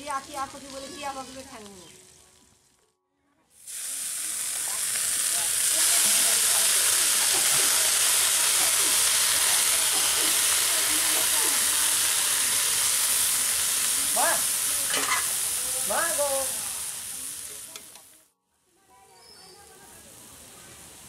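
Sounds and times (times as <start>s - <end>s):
leaves sizzling in hot oil: 0.0s - 2.9s, 3.5s - 18.3s, 19.1s - 21.0s.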